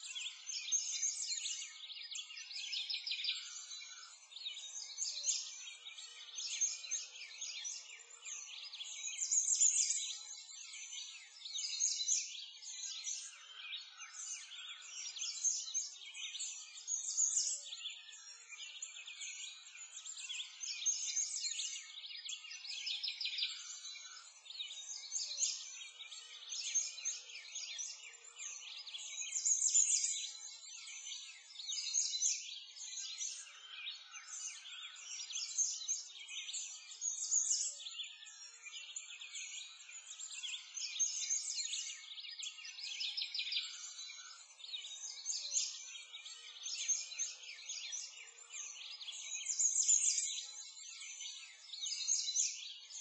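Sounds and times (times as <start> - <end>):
many birds chirping: 0.0 - 53.0.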